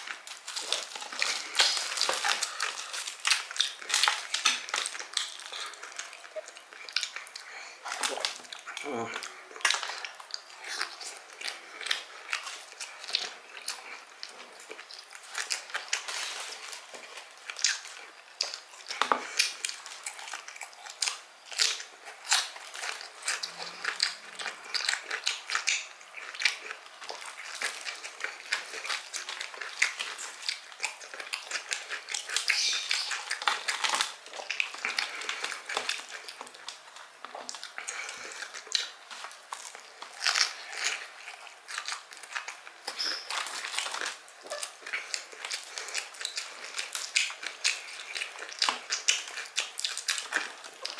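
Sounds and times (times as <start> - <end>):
crunching crispy chicken: 0.0 - 50.9.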